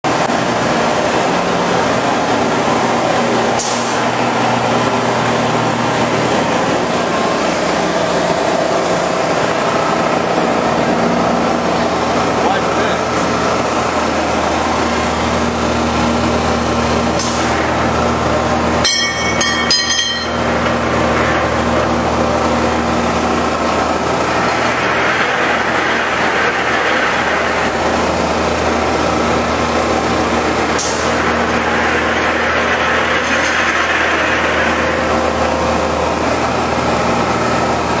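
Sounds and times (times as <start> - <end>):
floor grinder motor hum: 0.1 - 38.0.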